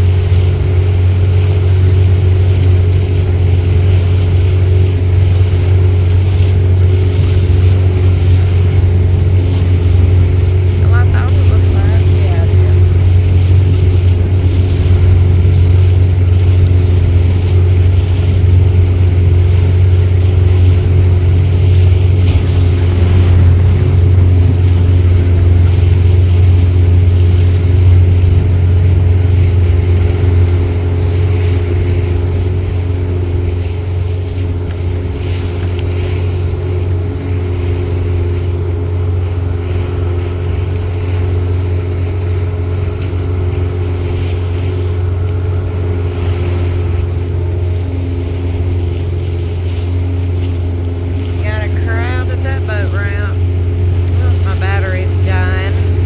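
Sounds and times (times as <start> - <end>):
boat motor droning: 0.0 - 56.0.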